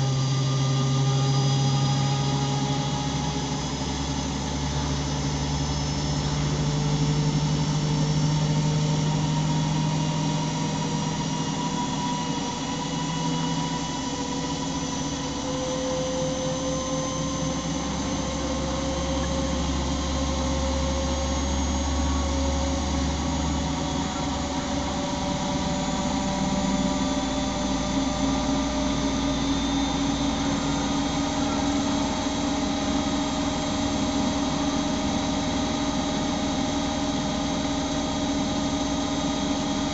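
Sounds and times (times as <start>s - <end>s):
low hum: 0.0s - 39.9s
washing machine motor whining: 0.0s - 39.9s.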